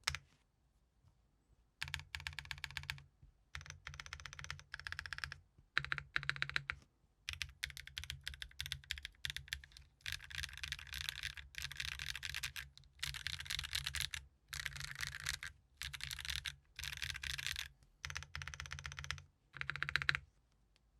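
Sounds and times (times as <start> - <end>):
rapid keyboard keystrokes: 1.8 - 3.0, 3.6 - 20.2.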